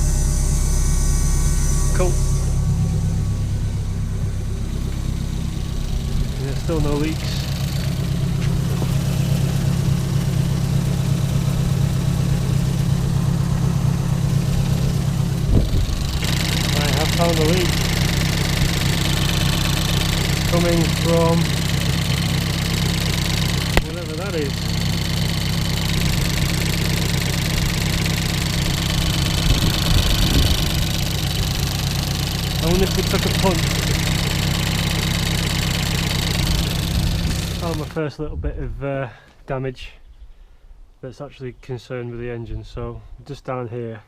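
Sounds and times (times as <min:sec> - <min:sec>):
race car engine idling: 0:00.0 - 0:38.0.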